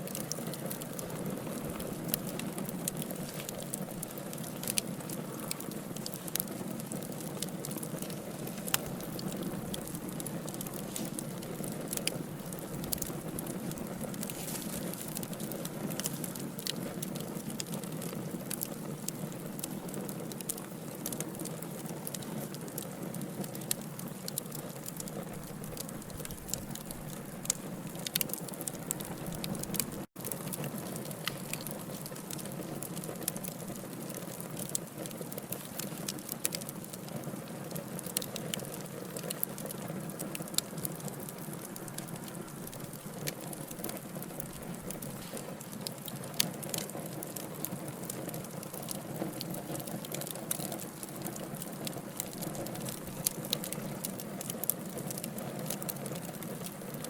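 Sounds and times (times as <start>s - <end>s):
burning logs crackling: 0.0s - 57.0s.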